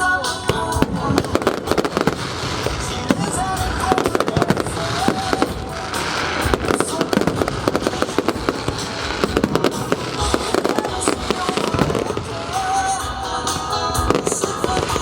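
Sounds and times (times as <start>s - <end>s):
fireworks bangs and crackles: 0.0s - 15.0s
show music: 0.0s - 15.0s.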